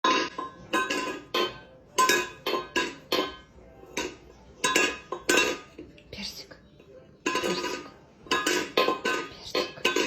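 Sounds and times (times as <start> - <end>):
food bowl clanging: 0.0 - 6.1, 6.7 - 10.0.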